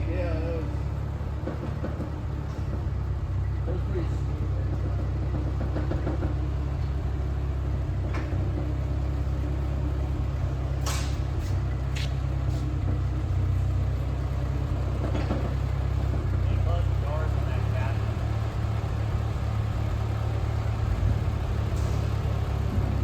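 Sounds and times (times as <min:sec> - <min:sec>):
aircraft engine running: 0:00.0 - 0:23.0.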